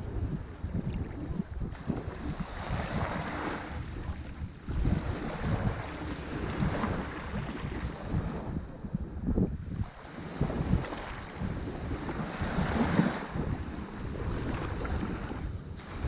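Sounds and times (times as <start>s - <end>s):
ocean waves breaking on shore: 0.0s - 16.0s
wind buffeting microphone: 0.0s - 16.0s.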